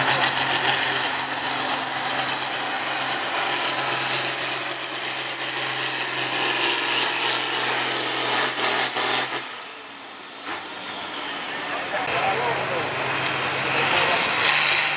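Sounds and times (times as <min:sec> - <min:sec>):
tractor diesel engine straining: 0:00.0 - 0:14.9.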